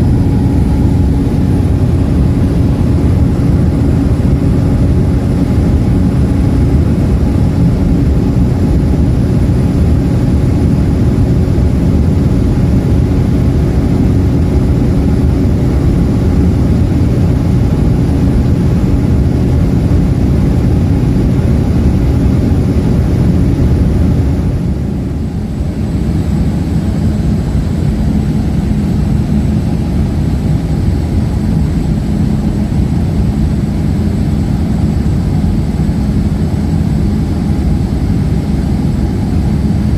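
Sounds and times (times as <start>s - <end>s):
airliner cabin engine drone: 0.0s - 39.9s
steady low hums: 0.0s - 39.9s.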